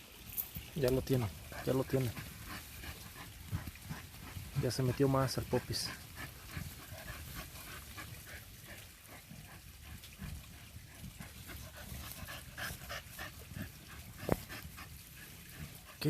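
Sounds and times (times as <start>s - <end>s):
dog paws scratching dirt: 0.2s - 16.0s.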